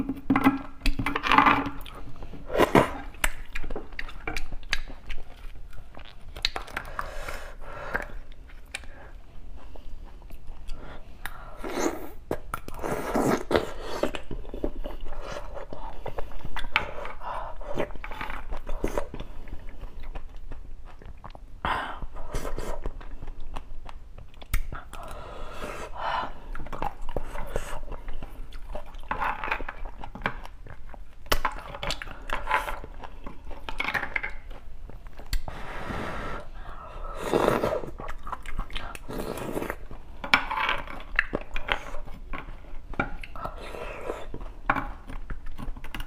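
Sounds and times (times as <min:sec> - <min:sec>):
chewing food: 0:00.0 - 0:35.6, 0:36.5 - 0:46.0.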